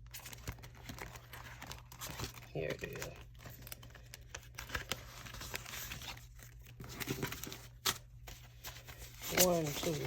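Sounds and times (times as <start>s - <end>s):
paper banknotes rustling: 0.0s - 10.0s.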